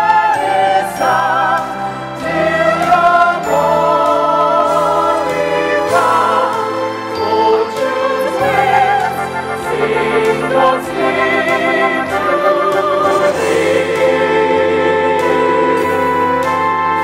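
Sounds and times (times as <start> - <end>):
mixed chorus singing: 0.0 - 17.0.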